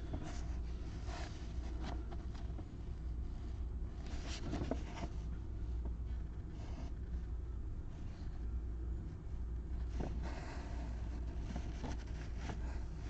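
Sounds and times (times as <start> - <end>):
low steady hum: 0.0 - 13.0
scratching and rustling from handling: 0.0 - 13.0.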